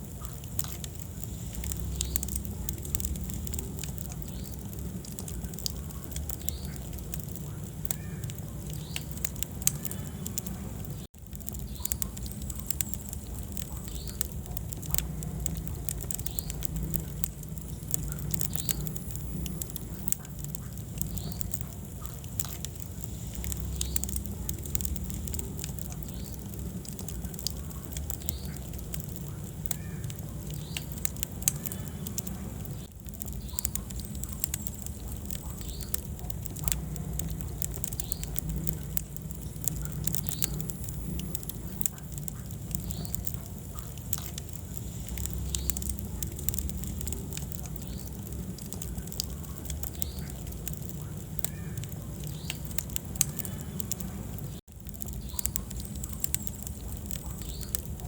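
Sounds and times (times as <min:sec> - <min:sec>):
fire crackles and pops: 0:00.0 - 0:58.0
low rumble of flames: 0:00.0 - 0:58.0.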